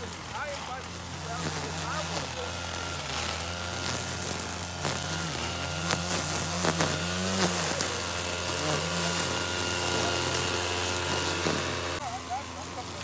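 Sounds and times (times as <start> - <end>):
string trimmer engine revving: 0.0 - 13.0.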